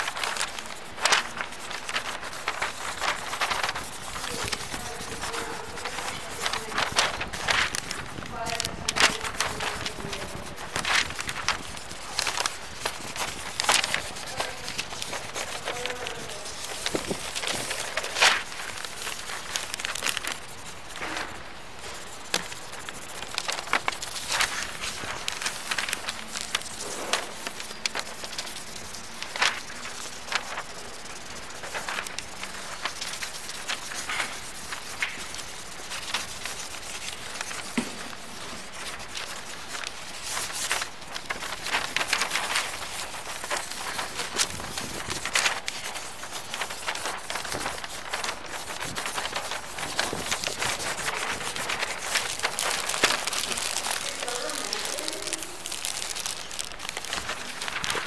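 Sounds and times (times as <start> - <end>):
scratchy crackling clicks: 0.0 - 58.0
steady hiss: 0.0 - 58.0.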